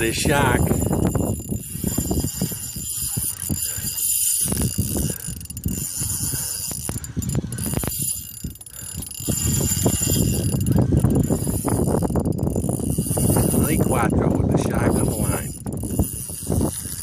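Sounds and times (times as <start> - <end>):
fishing reel ticking: 0.0 - 17.0.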